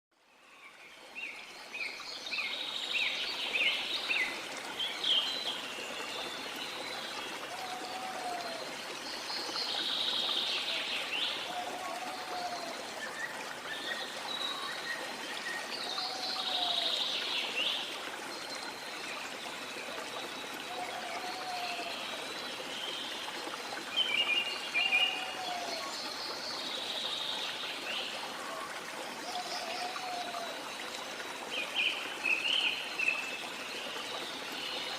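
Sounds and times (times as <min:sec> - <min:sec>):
river flowing: 0:00.2 - 0:34.9.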